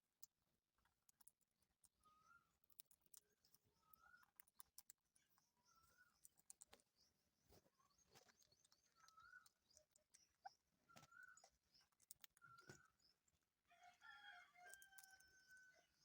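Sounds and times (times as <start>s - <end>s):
faint bird chirp: 1.2s - 16.0s.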